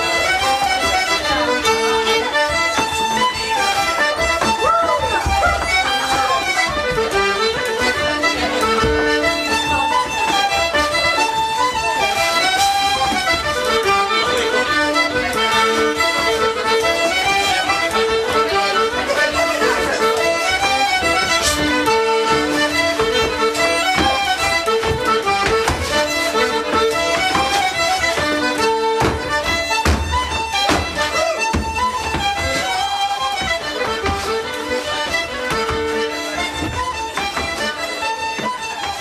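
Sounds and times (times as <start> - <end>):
accordion: 0.0 - 39.0
fiddle playing lively tune: 0.0 - 39.0.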